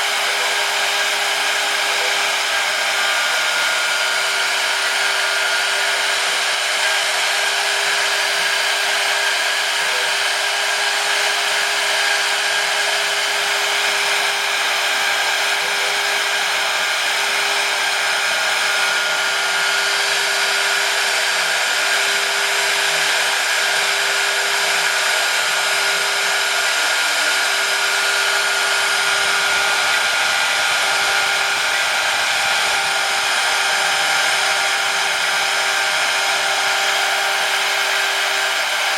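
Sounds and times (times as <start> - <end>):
spindle motor whining: 0.0 - 38.9.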